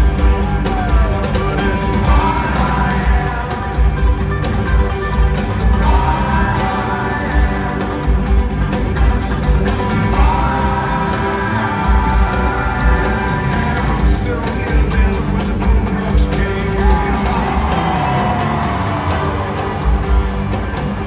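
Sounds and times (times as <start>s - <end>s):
person singing: 0.0s - 4.3s, 5.6s - 8.5s, 9.7s - 19.9s
bass guitar: 0.0s - 21.0s
drum beat with heavy kick: 0.0s - 21.0s
electric guitars: 0.0s - 21.0s.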